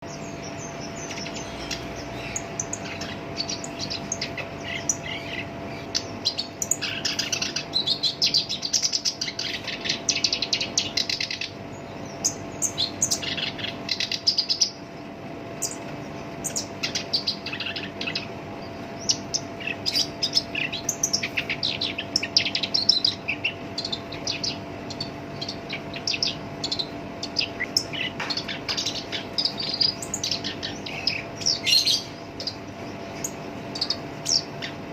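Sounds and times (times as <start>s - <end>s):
reed warbler singing: 0.0s - 14.9s, 15.5s - 34.9s.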